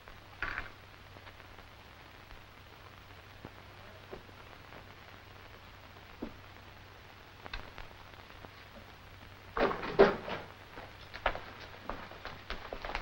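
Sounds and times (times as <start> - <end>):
film soundtrack hiss and hum: 0.0 - 13.0.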